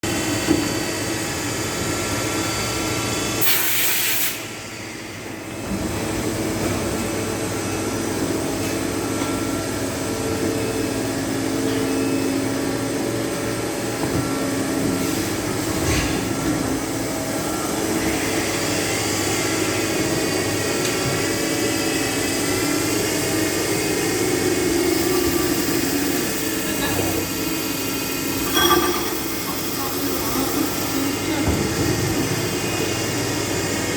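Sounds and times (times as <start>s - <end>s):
lathe machine hum with whine: 0.0s - 33.9s.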